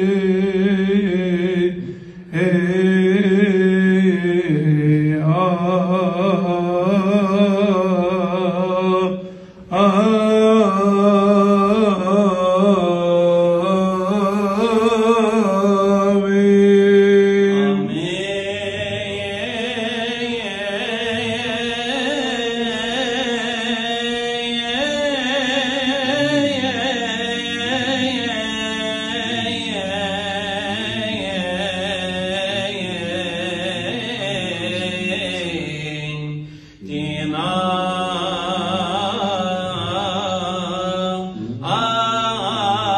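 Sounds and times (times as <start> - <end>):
man chanting into a microphone: 0.0 - 42.9.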